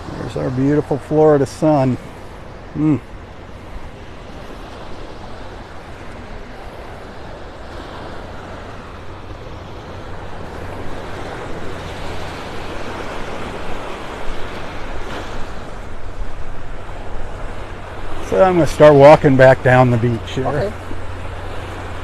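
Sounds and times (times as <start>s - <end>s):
small waves on sandy beach: 0.0s - 22.0s.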